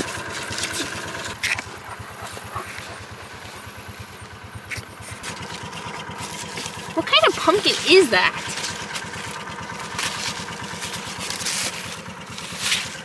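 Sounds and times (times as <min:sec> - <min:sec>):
small engine puttering: 0:00.0 - 0:13.0.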